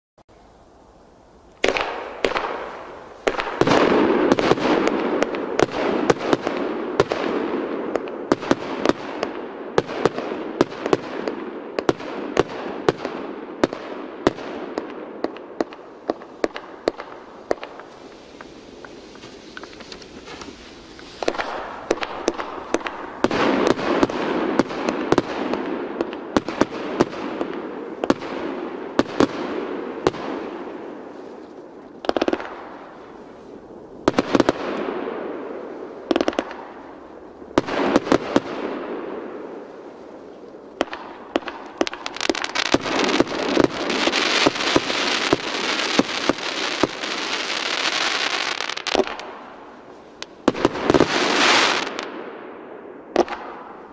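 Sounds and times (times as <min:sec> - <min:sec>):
firework aerial bursts crackling: 0:00.4 - 0:53.9.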